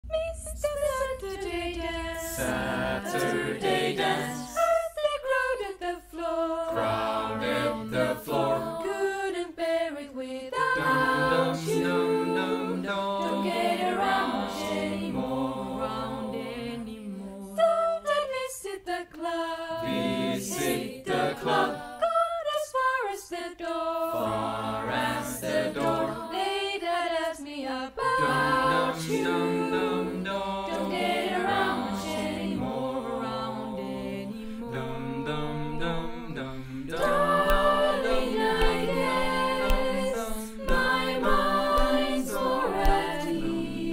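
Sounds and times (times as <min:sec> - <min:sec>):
a cappella choir singing: 0:00.0 - 0:43.9.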